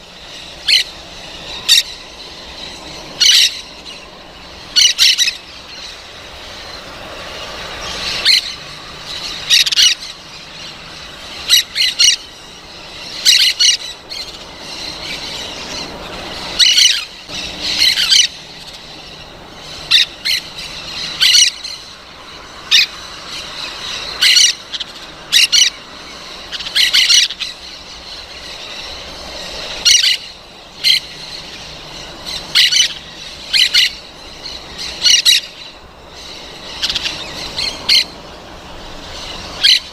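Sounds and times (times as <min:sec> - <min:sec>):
parrot squawking: 0:00.2 - 0:21.9, 0:22.6 - 0:39.9.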